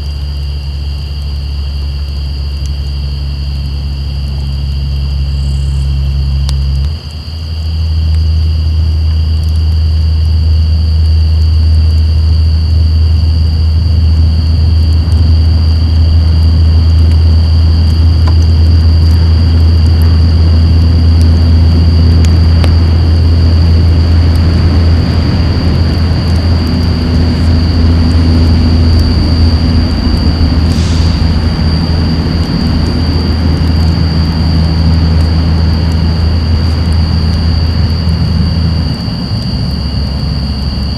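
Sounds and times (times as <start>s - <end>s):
campfire crackling: 0.0s - 40.9s
high-pitched insect tones: 0.0s - 40.9s
truck engine rumbling: 0.0s - 40.9s.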